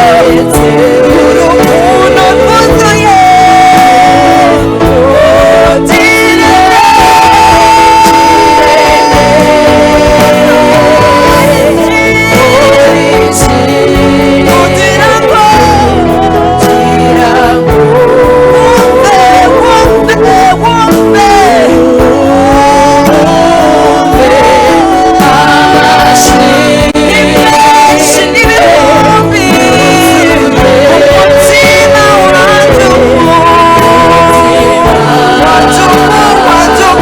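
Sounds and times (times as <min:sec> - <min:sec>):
instrumental backing with beat: 0:00.0 - 0:37.0
voices singing worship song: 0:00.0 - 0:37.0.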